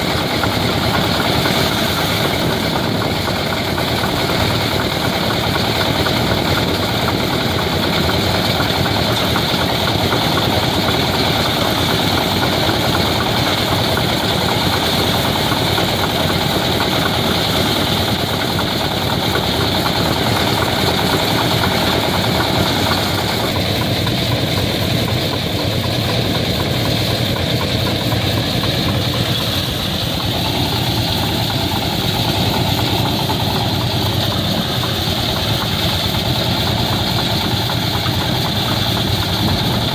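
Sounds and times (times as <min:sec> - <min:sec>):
threshing machine running: 0:00.0 - 0:39.9.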